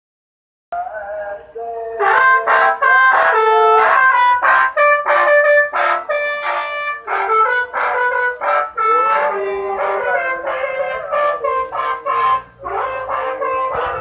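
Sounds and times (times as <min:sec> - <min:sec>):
musical air horns playing tune: 0:02.0 - 0:14.0.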